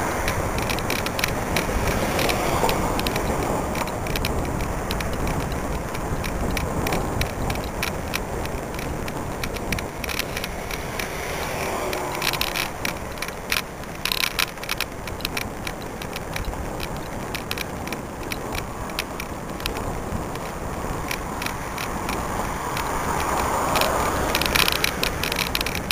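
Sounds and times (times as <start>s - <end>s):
light rattling clicks: 0.0s - 25.9s
tyres on asphalt: 0.0s - 25.9s
wind rushing: 0.0s - 25.9s.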